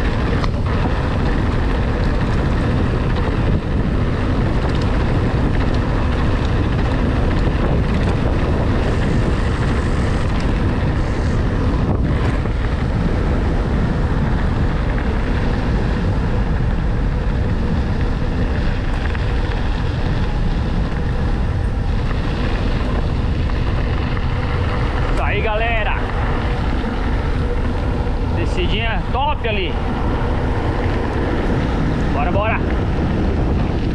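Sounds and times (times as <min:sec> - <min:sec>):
bike tyre rumble and rattle: 0:00.0 - 0:33.9
wind buffeting microphone: 0:00.0 - 0:33.9.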